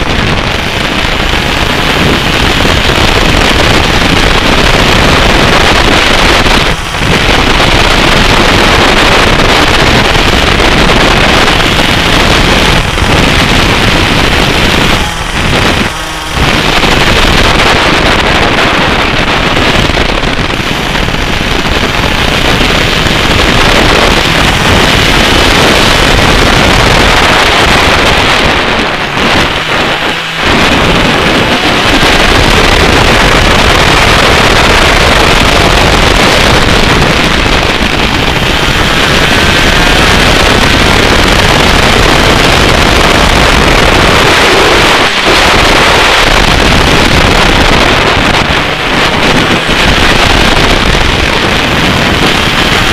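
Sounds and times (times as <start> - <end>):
kart engine running hard: 0.0 - 52.9
wind buffeting on microphone: 0.0 - 52.9.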